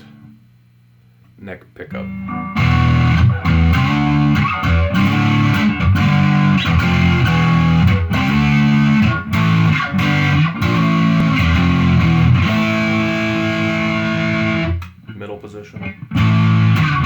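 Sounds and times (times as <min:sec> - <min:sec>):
distorted electric guitar riff: 0:01.9 - 0:17.0.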